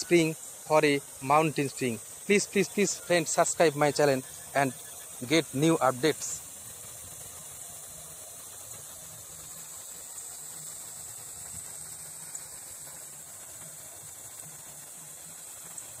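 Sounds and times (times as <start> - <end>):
water falling to the ground: 0.0 - 16.0.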